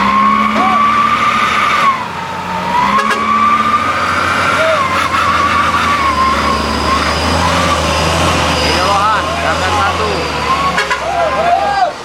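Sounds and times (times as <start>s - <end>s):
heavy truck engine drone: 0.0s - 12.0s.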